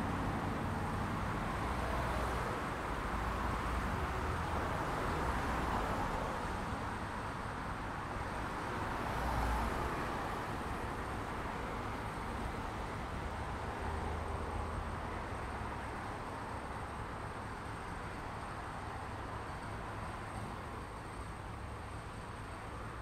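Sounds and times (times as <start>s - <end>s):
cars passing by: 0.0s - 23.0s.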